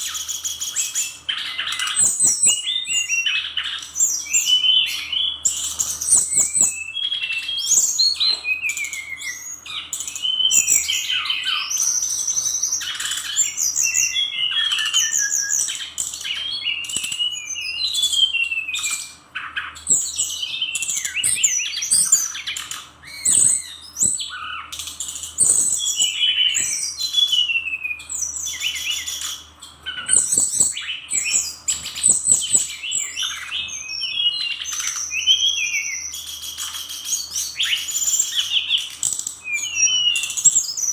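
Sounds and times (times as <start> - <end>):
bird singing whistles and trills: 0.0 - 40.9.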